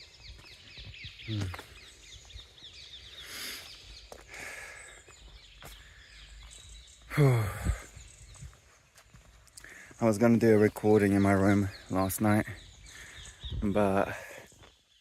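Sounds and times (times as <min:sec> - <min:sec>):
faint bird calls: 0:00.0 - 0:10.0, 0:11.6 - 0:14.9.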